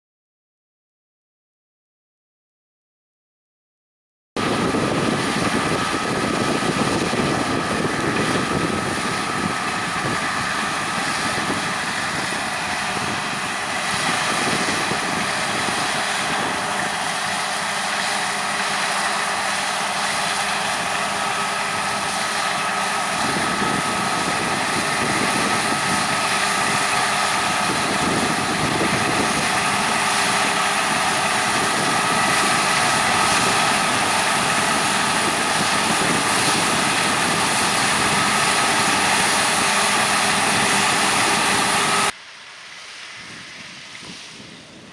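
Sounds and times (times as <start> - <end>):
combine harvester running: 4.4 - 44.9.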